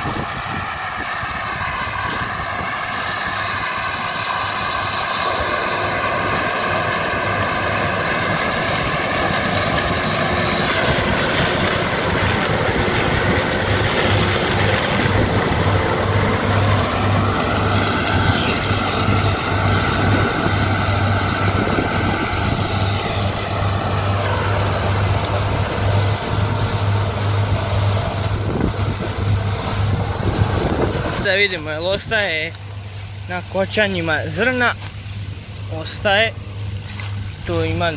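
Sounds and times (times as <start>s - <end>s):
shifting whine: 0.0s - 37.9s
tractor engine running: 0.0s - 37.9s.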